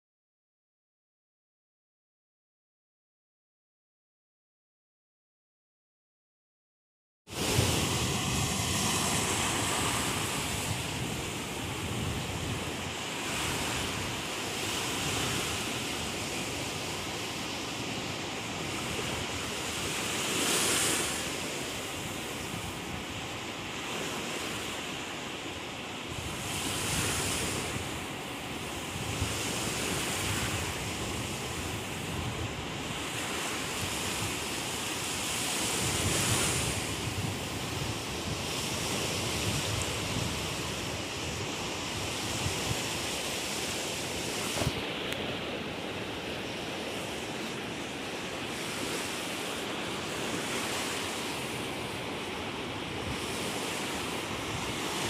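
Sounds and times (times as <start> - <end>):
wind buffeting microphone: 7.3 - 24.6, 26.0 - 55.0.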